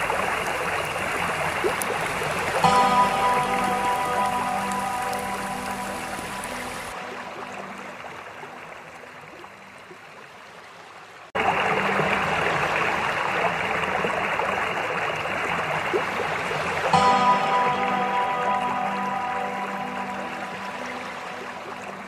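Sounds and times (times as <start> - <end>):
faint background music: 0.0 - 10.3, 11.4 - 22.0
loud rush of water: 0.0 - 22.0.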